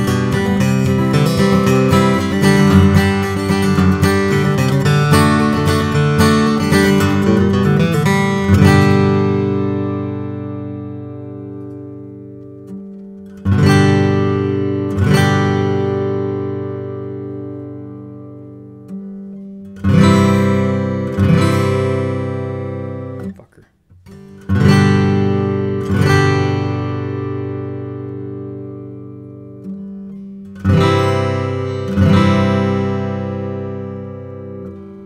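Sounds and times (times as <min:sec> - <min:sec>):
acoustic guitar picked and strummed: 0:00.0 - 0:35.0.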